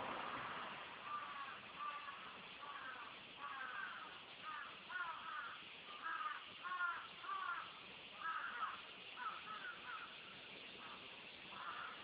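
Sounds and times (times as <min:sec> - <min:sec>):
cicadas chorus: 0:00.0 - 0:12.0
crows cawing: 0:01.0 - 0:12.0.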